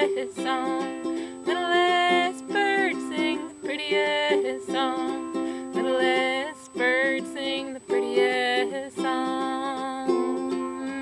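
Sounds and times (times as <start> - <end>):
person singing: 0.0 - 11.0
ukulele strumming: 0.0 - 11.0.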